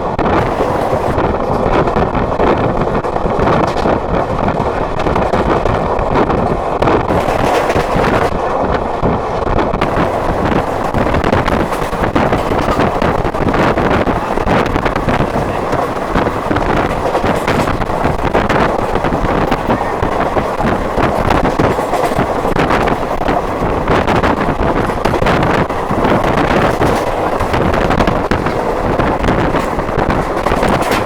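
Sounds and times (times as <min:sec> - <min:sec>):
train running: 0:00.0 - 0:31.0
wind buffeting microphone: 0:00.0 - 0:31.0.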